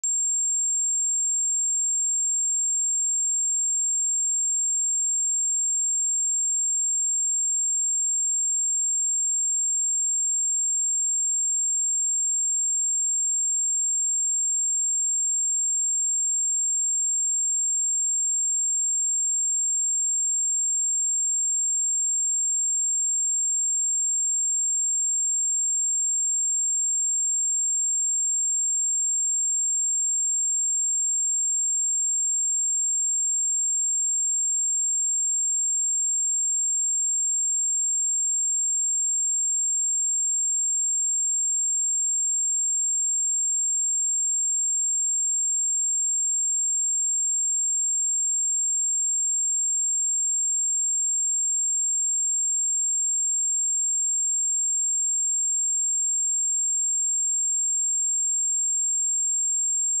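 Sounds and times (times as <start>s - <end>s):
high-pitched sine test tone: 0.0s - 60.0s.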